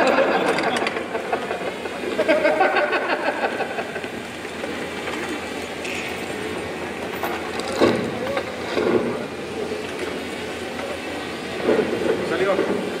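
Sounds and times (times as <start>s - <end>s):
crowd chattering: 0.0s - 13.0s.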